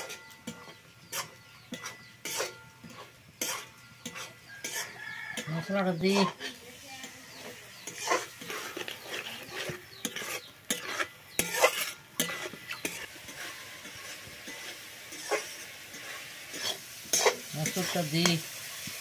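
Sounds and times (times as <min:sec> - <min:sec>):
metal spatula scraping pan: 0:00.0 - 0:19.0
paste sizzling in hot oil: 0:00.0 - 0:19.0.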